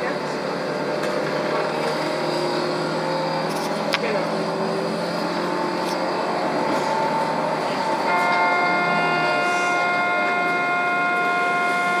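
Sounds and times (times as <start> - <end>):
train rumble and rush: 0.0 - 12.0.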